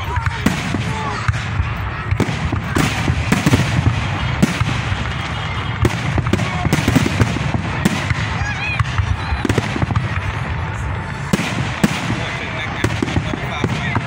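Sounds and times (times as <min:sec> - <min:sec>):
fireworks bursting in sharp bangs: 0:00.0 - 0:14.0
fireworks crackle: 0:00.0 - 0:14.0.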